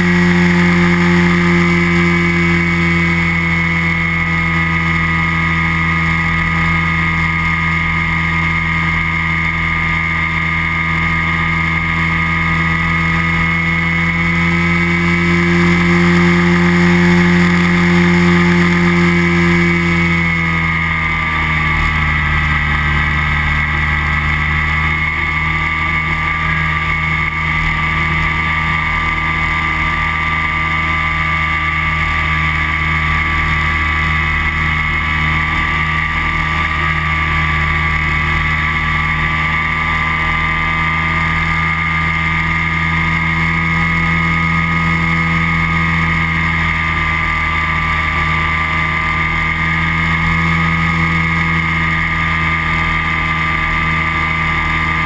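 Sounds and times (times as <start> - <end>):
microlight engine droning: 0.0 - 55.0.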